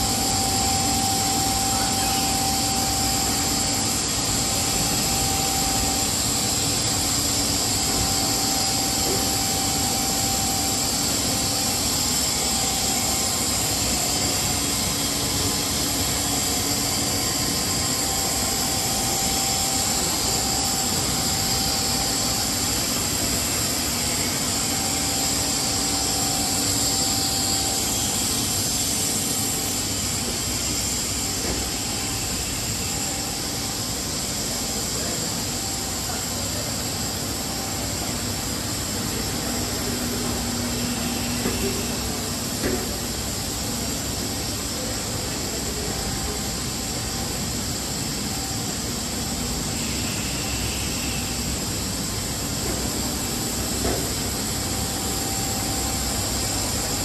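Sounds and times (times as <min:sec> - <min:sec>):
extrusion machine hiss and hum: 0:00.0 - 0:57.0
mid-pitched machine whine: 0:00.0 - 0:57.0.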